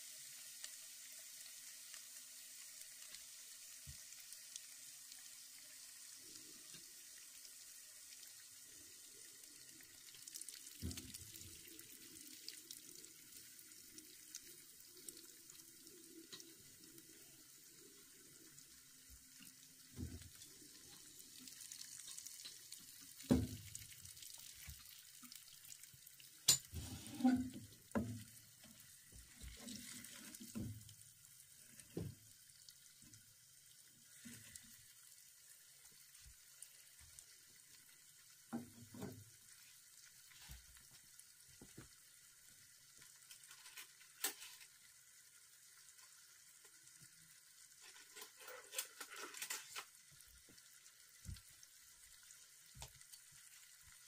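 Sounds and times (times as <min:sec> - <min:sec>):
eggs sizzling in hot oil: 0:00.0 - 0:54.0.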